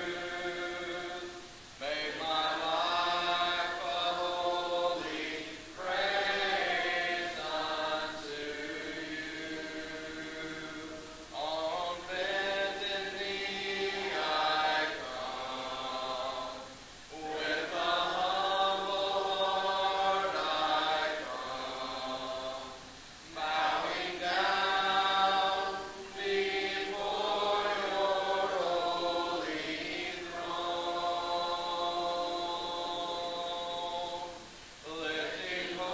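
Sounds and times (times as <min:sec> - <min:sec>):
congregation singing a hymn: 0:00.0 - 0:35.9.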